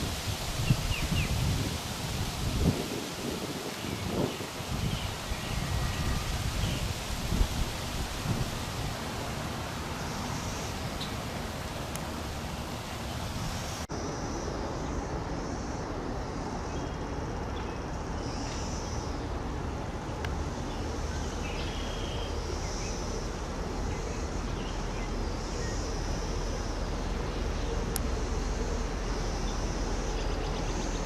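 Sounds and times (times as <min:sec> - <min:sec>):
steady wash of noise: 0:00.0 - 0:31.0.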